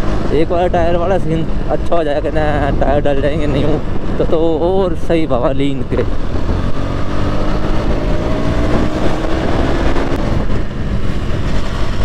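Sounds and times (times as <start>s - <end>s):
motorcycle engine accelerating: 0.0s - 4.2s, 5.8s - 12.0s
wind rumble on microphone: 0.0s - 12.0s.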